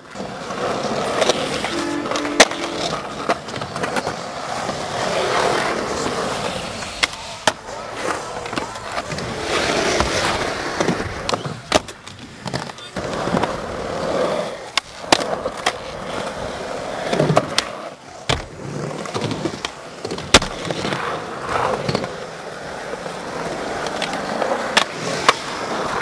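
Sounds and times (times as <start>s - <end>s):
skateboard clacking on concrete: 0.0s - 26.0s
skateboard wheels rolling on concrete: 0.0s - 26.0s.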